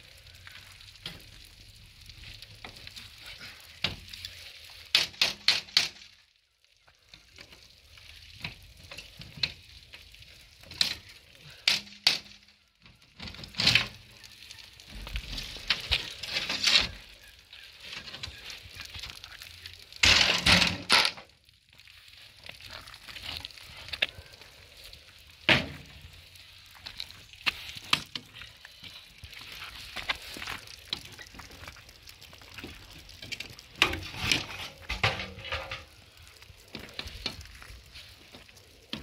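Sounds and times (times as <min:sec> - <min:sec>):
knocks and scrapes of building work: 0:00.5 - 0:06.2, 0:06.9 - 0:39.0.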